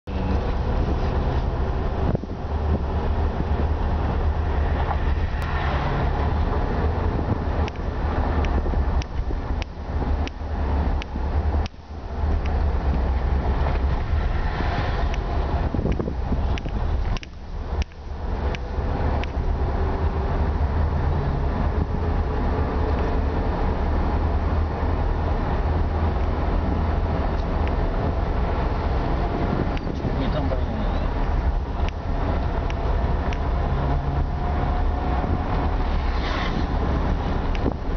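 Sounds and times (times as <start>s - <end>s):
vehicle road and engine rumble: 0.0s - 37.9s.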